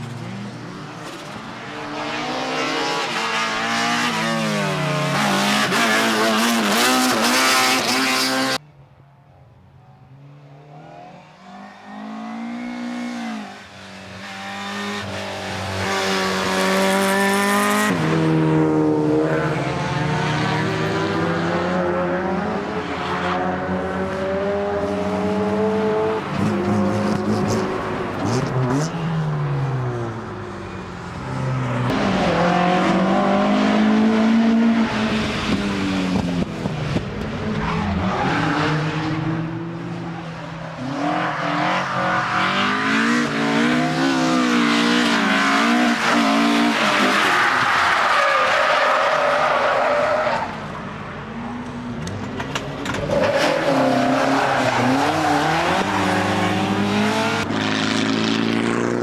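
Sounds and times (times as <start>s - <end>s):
race car engines revving: 0.0s - 8.6s, 10.1s - 59.0s.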